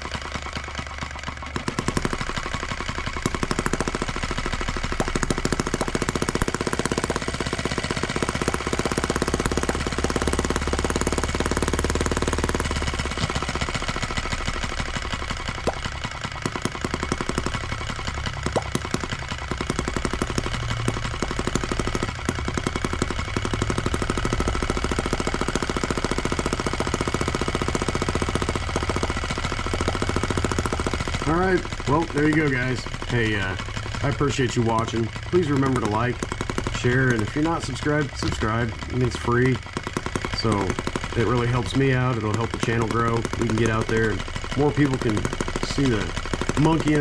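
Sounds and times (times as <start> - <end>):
model engine running: 0.0 - 47.0.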